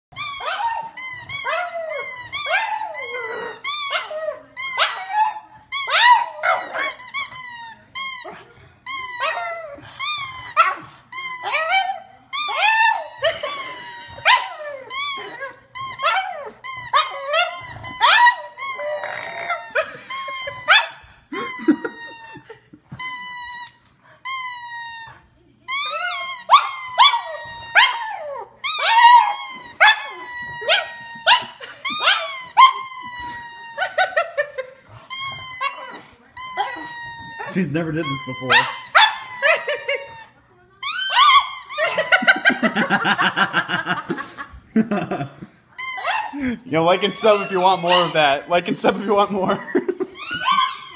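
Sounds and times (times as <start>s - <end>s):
dog whining: 0.1s - 34.2s, 35.0s - 42.9s, 45.8s - 48.7s, 50.1s - 50.9s.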